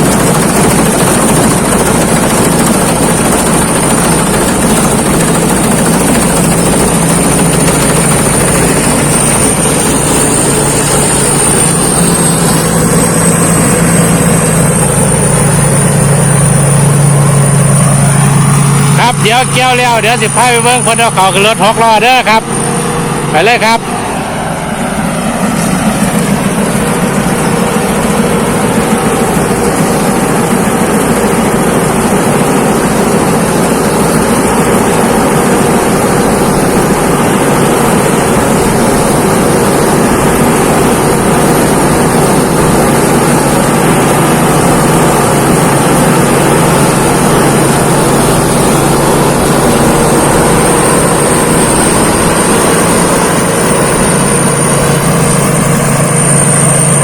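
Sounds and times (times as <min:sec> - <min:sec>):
combine harvester droning: 0:00.0 - 0:57.0
faint high whine: 0:01.7 - 0:57.0.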